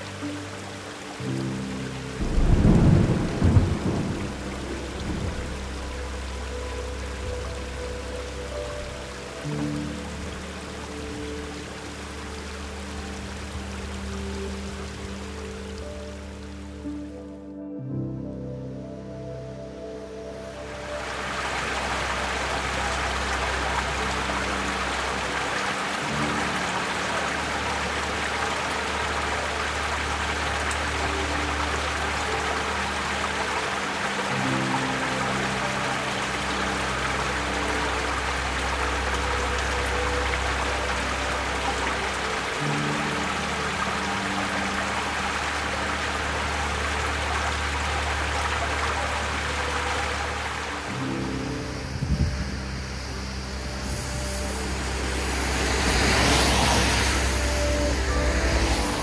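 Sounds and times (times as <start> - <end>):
mountain stream rushing: 0.0 - 17.4, 18.7 - 59.0
background music with low notes: 0.0 - 59.0.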